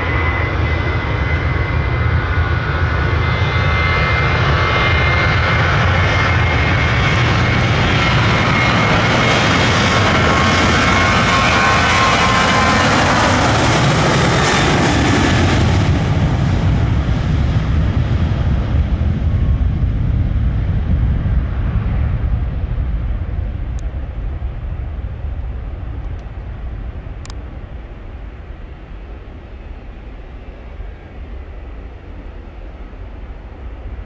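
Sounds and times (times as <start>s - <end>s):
jet engines with whining fan: 0.0s - 34.0s.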